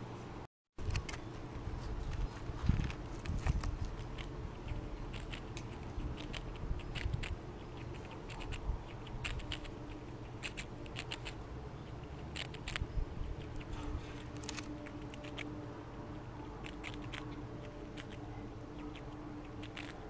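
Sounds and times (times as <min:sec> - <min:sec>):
squirrel cracking and chewing seeds: 0:00.8 - 0:20.0.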